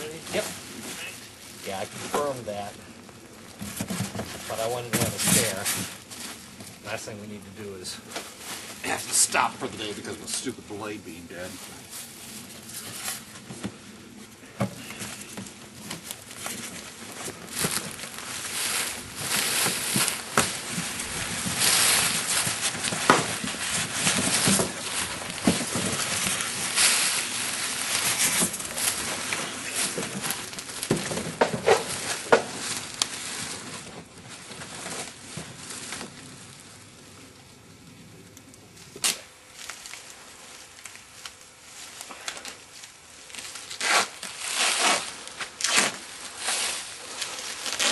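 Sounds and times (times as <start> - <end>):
packaging rustling and crinkling: 0.0 - 37.5, 38.8 - 47.9.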